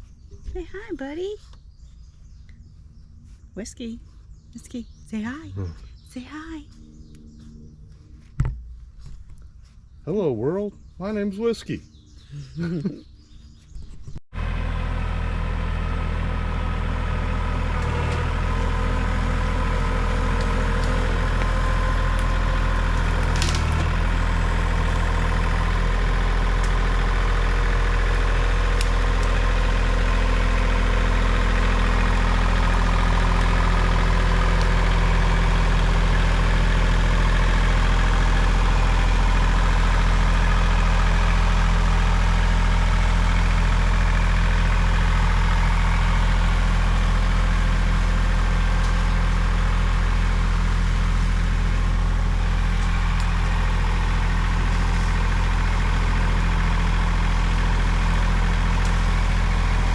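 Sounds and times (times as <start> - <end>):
tractor diesel engine running: 0.0 - 12.5, 13.4 - 59.9.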